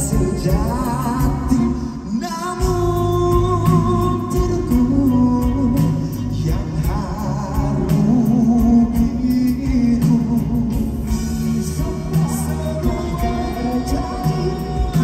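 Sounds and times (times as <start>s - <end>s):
band accompaniment: 0.0s - 15.0s
person singing: 0.0s - 15.0s
pop song over loudspeakers: 0.0s - 15.0s.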